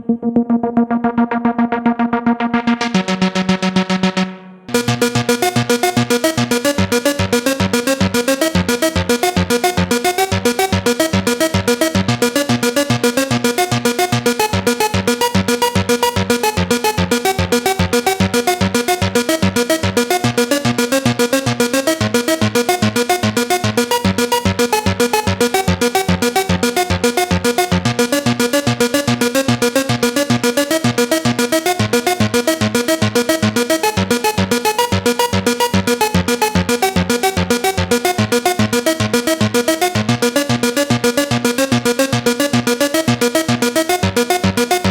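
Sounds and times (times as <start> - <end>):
pulsing bass line: 0.0 - 44.9
synthesizer sequenced pattern: 0.0 - 44.9.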